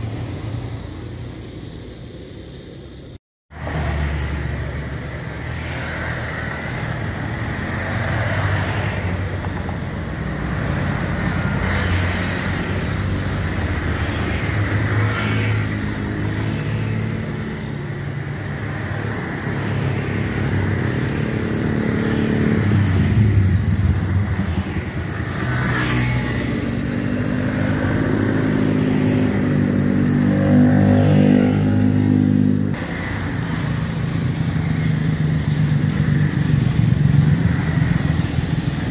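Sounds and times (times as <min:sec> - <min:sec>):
jet engines humming and whining: 0:00.0 - 0:38.9.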